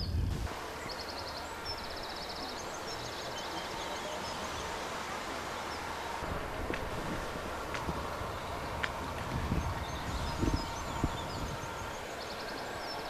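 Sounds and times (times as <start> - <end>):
small birds chirping: 0.0 - 6.2, 6.8 - 13.0
outdoor background noise: 0.0 - 13.0.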